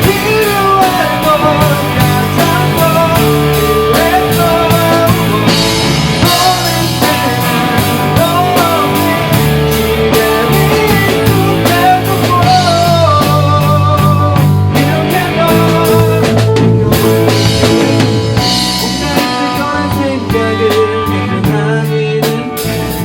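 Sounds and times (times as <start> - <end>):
bass guitar: 0.0 - 23.0
bending melody line: 0.0 - 23.0
drum kit: 0.0 - 23.0
electric guitar: 0.0 - 23.0.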